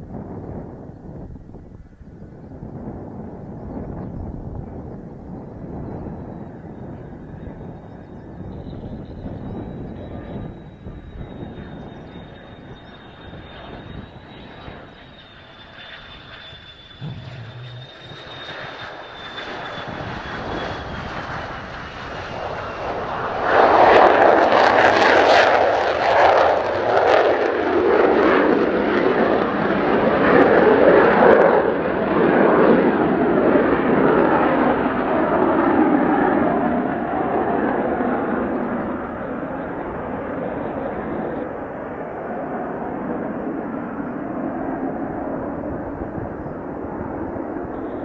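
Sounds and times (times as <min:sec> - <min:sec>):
jet engine whine: 0:00.0 - 0:48.0
jet roar with crackle: 0:08.4 - 0:48.0.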